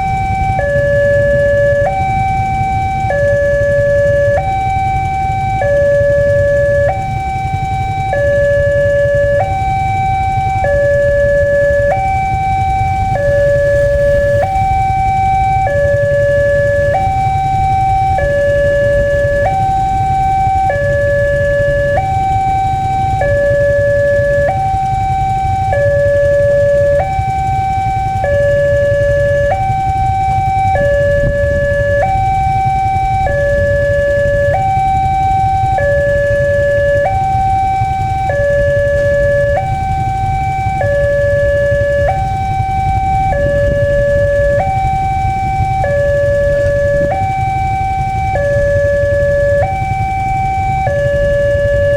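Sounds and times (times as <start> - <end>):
two-tone level crossing alarm: 0.0 - 51.9.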